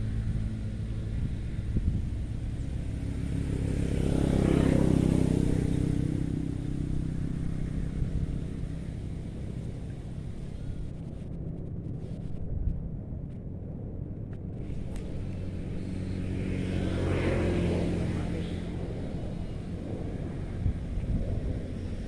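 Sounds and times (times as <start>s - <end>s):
vehicle passing: 0.0s - 11.3s, 14.6s - 22.0s.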